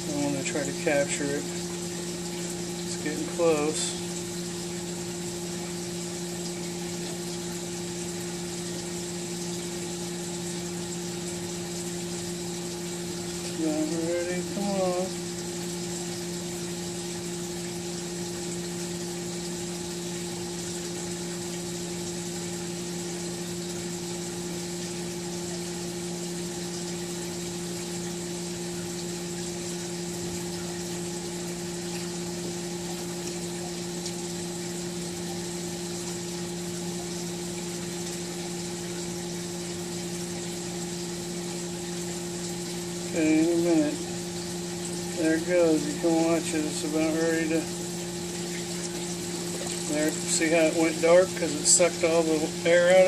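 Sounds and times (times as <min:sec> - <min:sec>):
water pump humming: 0:00.0 - 0:53.0
water trickling: 0:00.0 - 0:53.0.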